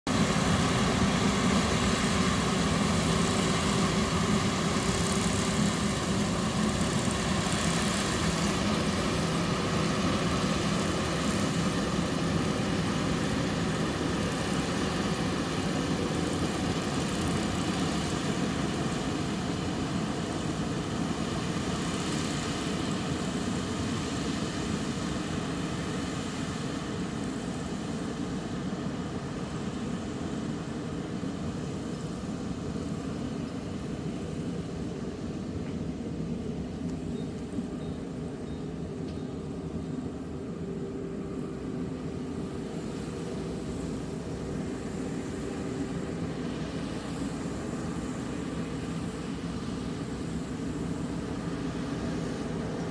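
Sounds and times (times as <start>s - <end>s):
combine harvester engine: 0.1s - 52.9s.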